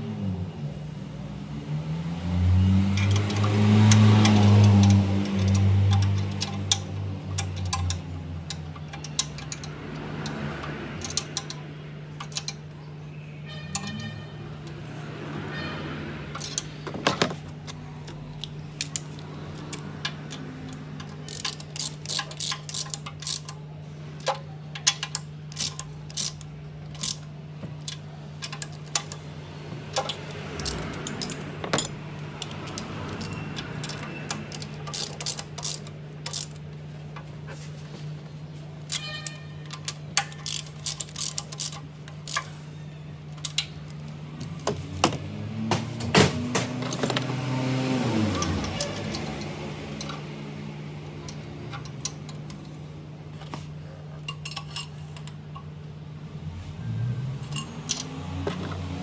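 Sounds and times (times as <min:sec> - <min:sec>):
metallic clicks and clinks: 0:02.9 - 0:12.8, 0:13.5 - 0:14.9, 0:16.3 - 0:23.6, 0:24.2 - 0:50.3, 0:51.0 - 0:55.7, 0:57.4 - 0:59.0.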